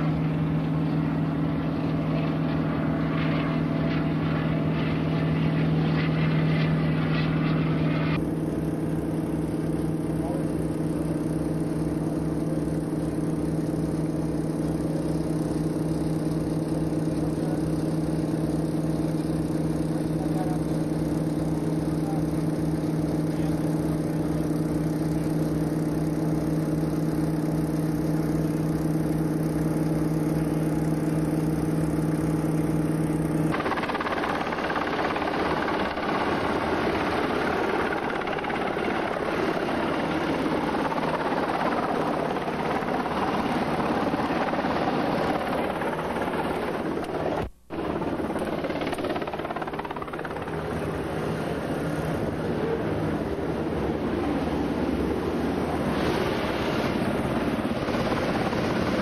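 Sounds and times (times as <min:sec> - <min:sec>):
boat engine throbbing: 0:00.0 - 0:59.0.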